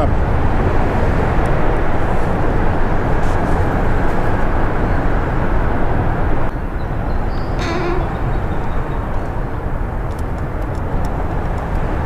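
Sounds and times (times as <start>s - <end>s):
boat engine rumble and rushing: 0.0s - 12.0s.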